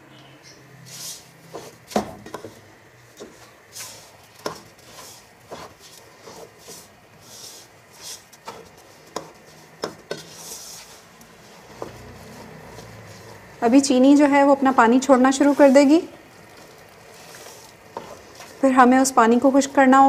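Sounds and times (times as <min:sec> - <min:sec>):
spoon scraping mash in pot: 0:00.9 - 0:14.3, 0:15.0 - 0:19.7.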